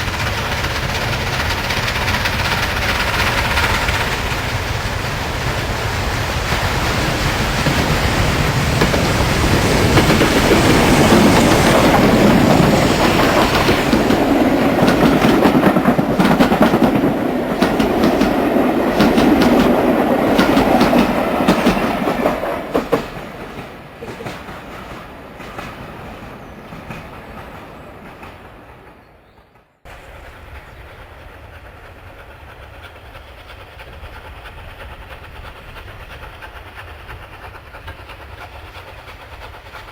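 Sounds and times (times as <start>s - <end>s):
train wheels clacking over rail joints: 0.0s - 28.9s, 29.9s - 39.9s.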